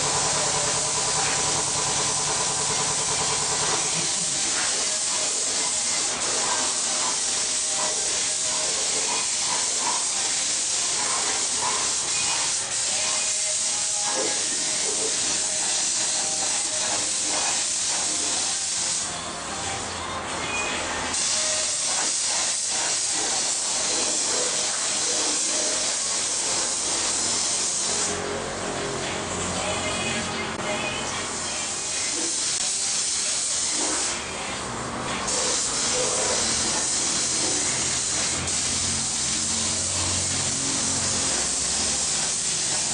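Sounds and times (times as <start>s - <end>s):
spray gun hissing: 0.0s - 19.1s, 21.1s - 28.2s, 31.3s - 34.2s, 35.2s - 42.9s.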